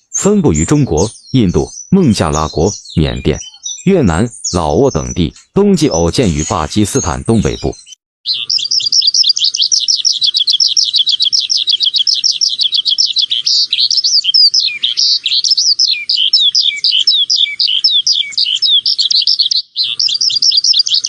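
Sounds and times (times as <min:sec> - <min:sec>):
songbird twittering: 0:00.0 - 0:21.0.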